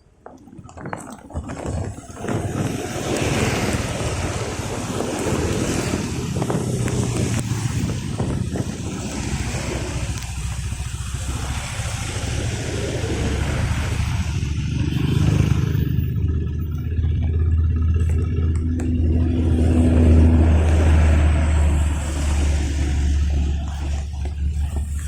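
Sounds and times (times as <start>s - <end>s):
vehicle engine rumble: 0.0s - 25.0s
wind or road noise hiss: 2.0s - 16.2s, 19.0s - 25.0s.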